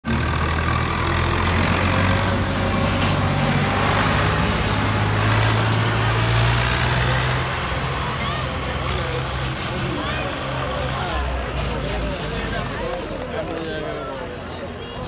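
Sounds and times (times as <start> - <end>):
crowd noise: 0.0 - 15.0
tractor diesel engine at low revs: 0.0 - 15.0.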